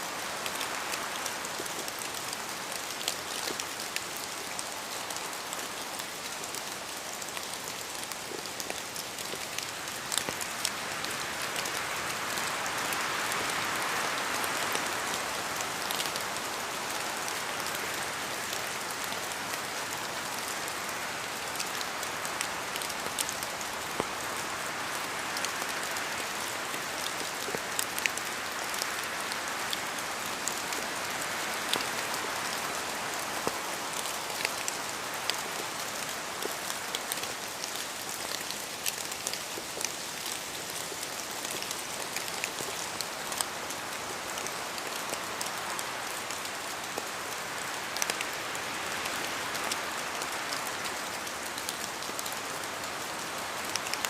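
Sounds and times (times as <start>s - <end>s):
rain falling in forest: 0.0s - 54.0s.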